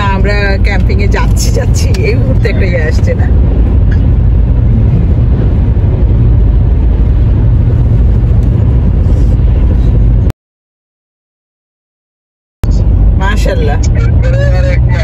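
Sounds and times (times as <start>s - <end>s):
car driving interior road noise: 0.0s - 10.3s, 12.6s - 15.0s.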